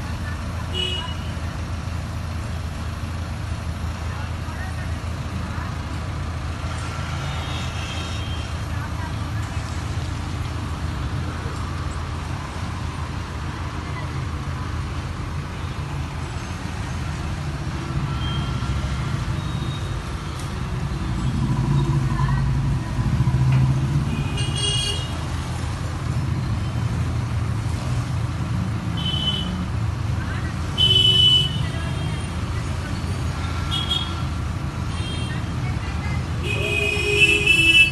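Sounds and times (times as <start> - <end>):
low rumble of street traffic: 0.0 - 37.9.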